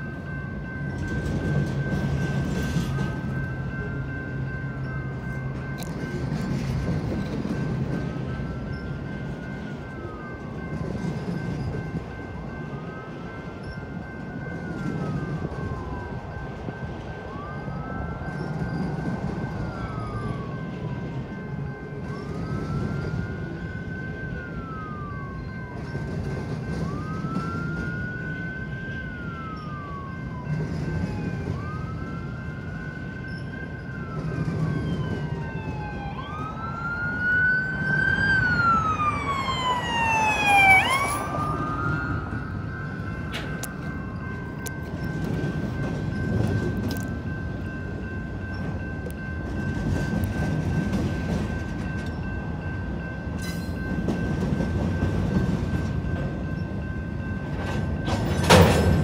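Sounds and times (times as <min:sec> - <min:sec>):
emergency vehicle siren wailing: 0:00.0 - 0:59.0.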